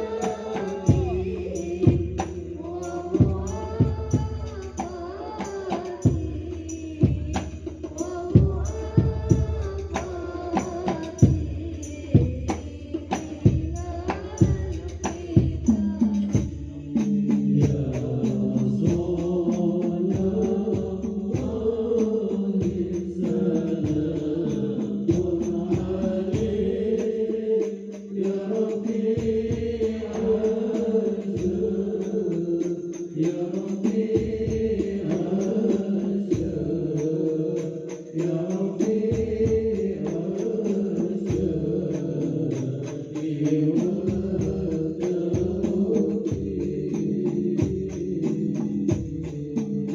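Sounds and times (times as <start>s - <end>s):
frame drum and tambourine: 0.0s - 49.9s
man singing chant: 0.0s - 49.9s.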